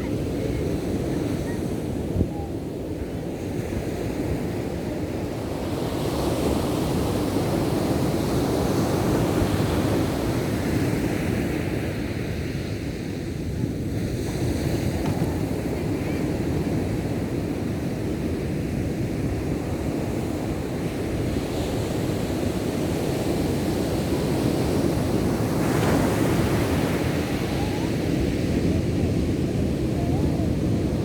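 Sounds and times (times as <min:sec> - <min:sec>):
waves breaking on shore: 0:00.0 - 0:31.0
wind buffeting microphone: 0:00.0 - 0:31.0.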